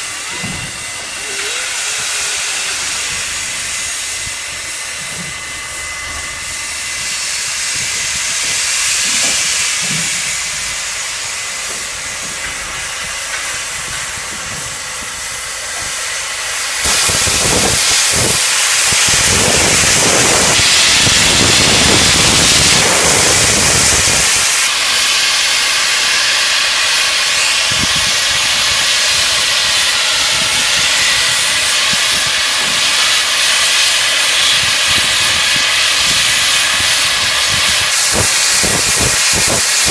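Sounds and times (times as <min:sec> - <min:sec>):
loud rush of steam: 0:00.0 - 0:39.9
steam locomotive hissing: 0:00.0 - 0:39.9.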